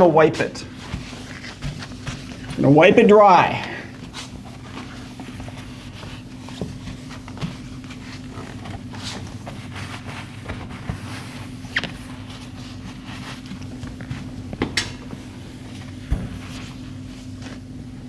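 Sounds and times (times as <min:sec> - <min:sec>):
cloth rubbing on metal door: 0:00.0 - 0:18.0
steady low hum: 0:00.0 - 0:18.0.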